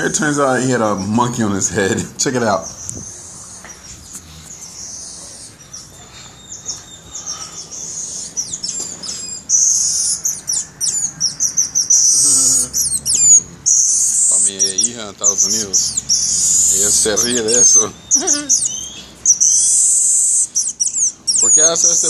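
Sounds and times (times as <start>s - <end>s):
tamarin chirping calls: 0.0s - 22.0s.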